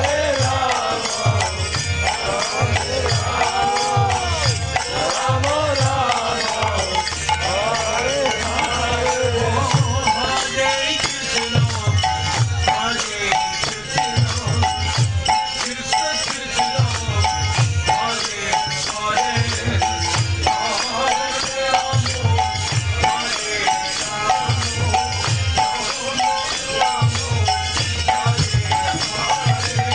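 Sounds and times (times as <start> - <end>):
chanting voices: 0.0 - 29.9
jangling percussion: 0.0 - 29.9.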